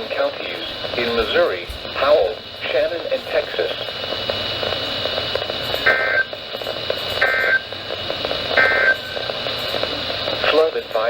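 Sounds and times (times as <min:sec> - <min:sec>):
buzzy data bursts: 0:00.0 - 0:11.0
radio static hiss: 0:00.0 - 0:11.0.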